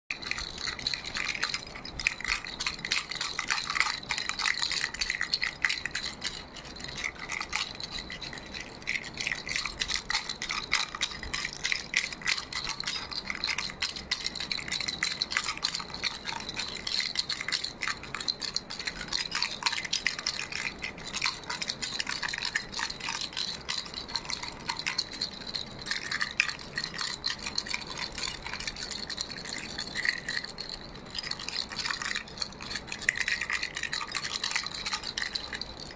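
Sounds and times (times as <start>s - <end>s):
toy rattle shaken: 0.1s - 35.9s.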